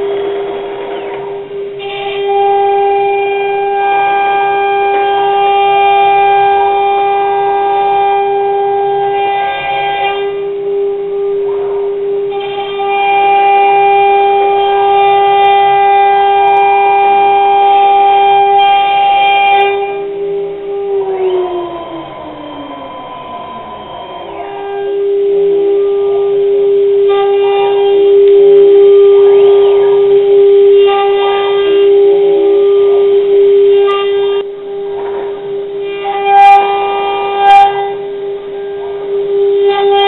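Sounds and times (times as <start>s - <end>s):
cnc router spindle whine: 0.0s - 40.0s.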